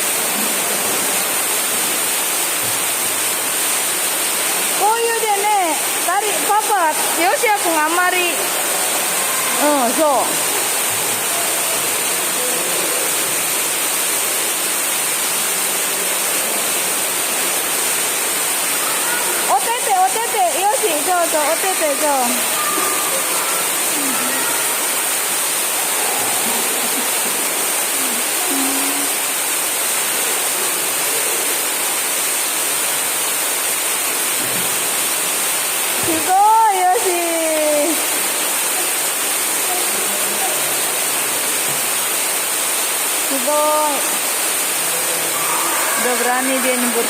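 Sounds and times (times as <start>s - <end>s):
water rushing in a pool: 0.0s - 47.0s.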